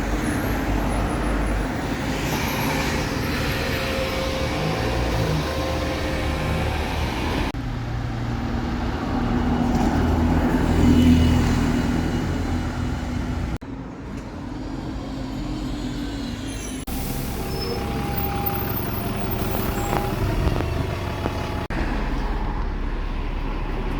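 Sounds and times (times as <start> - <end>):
bus engine running: 0.0 - 13.6, 16.5 - 23.9.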